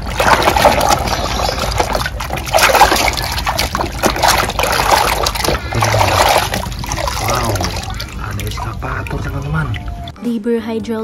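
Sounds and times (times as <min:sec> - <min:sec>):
water splashing in a basin: 0:00.0 - 0:10.1.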